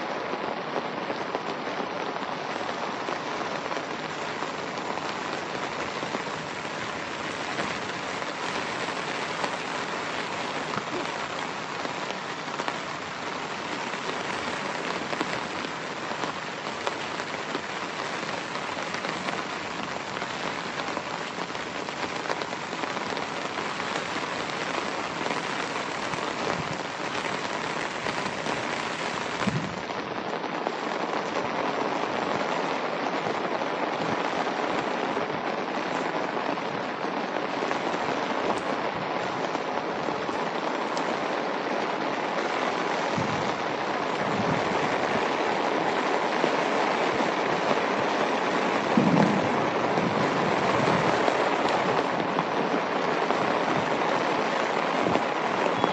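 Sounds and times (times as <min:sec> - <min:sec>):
heavy rain on dirt and grass: 0:00.0 - 0:55.9.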